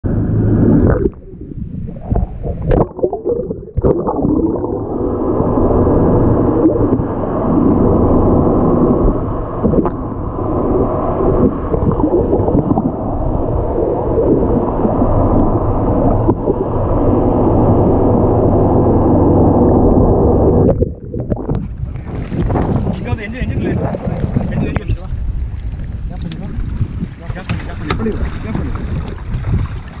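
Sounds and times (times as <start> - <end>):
underwater rumble of seawater: 0.0 - 30.0.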